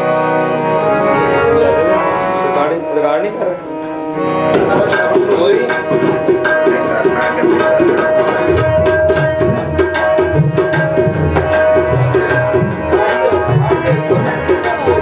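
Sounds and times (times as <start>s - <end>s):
harmonium chords and melody: 0.0s - 15.0s
tabla rhythm: 0.0s - 15.0s.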